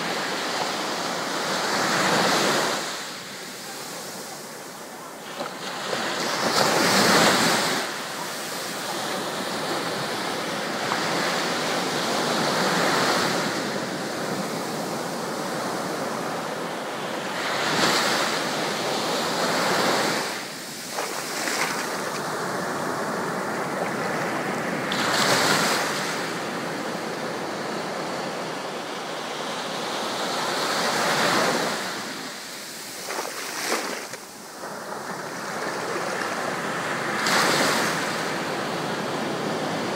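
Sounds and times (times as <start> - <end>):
waves washing up the shore: 0.0 - 39.9.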